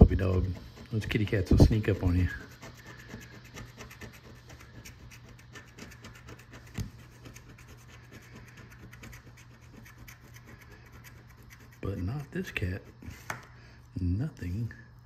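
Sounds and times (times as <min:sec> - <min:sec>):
coin scratching ticket: 0:00.0 - 0:12.8.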